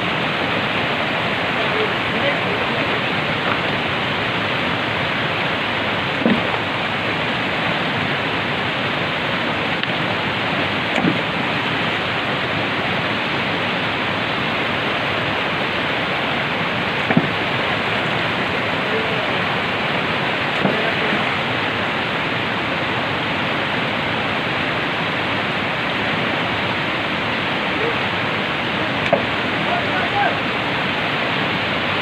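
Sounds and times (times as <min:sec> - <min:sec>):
river rushing over boulders: 0:00.0 - 0:32.0.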